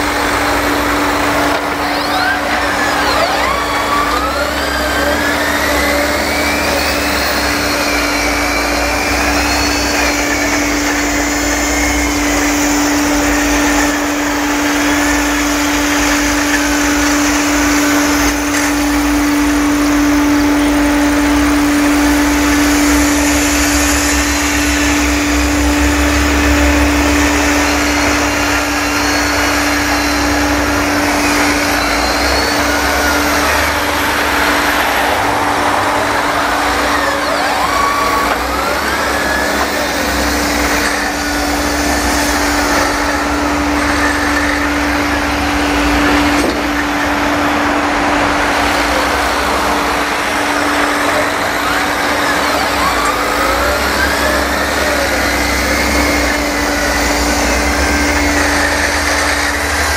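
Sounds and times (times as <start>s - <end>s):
tractor engines droning: 0.0s - 59.9s.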